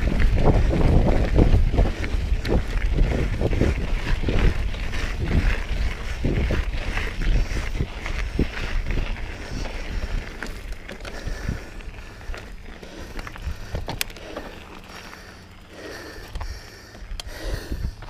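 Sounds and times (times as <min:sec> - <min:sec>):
wind rumble on microphone: 0:00.0 - 0:14.1, 0:16.3 - 0:18.0
bike frame rattle: 0:00.0 - 0:18.0
bike tyres crunching on gravel: 0:00.0 - 0:18.0.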